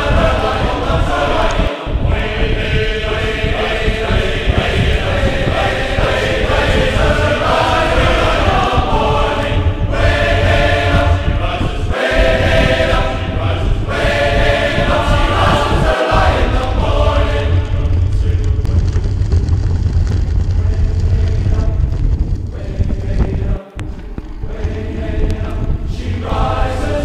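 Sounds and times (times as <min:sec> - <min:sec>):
choral chant singing: 0:00.0 - 0:18.9, 0:20.6 - 0:27.0
wind rumble on microphone: 0:00.0 - 0:27.0.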